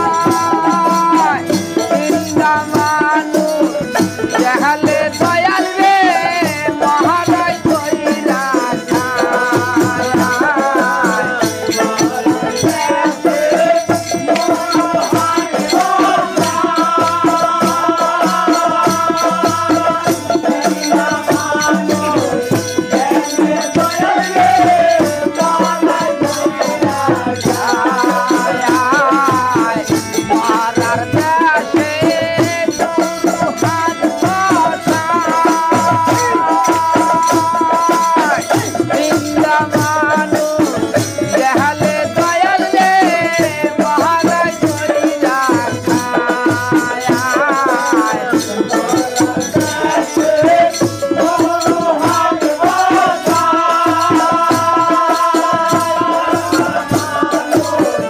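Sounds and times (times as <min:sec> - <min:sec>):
barrel drum beat: 0:00.0 - 0:58.0
jingling tambourine: 0:00.0 - 0:58.0.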